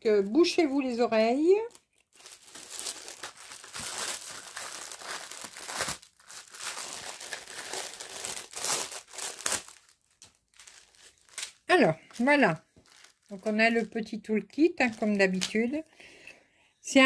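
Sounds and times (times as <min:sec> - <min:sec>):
plastic bag crinkling: 0:00.3 - 0:15.9.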